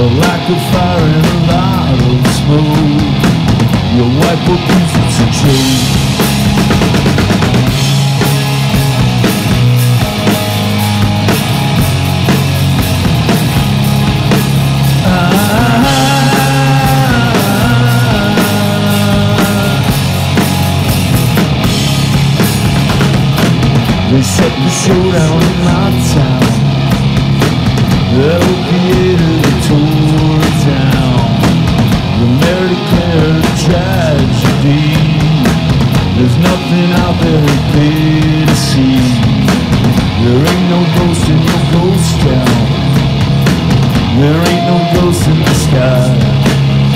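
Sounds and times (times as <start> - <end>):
distorted electric guitar: 0.0 - 46.9
drum kit with crashing cymbals: 0.0 - 46.9.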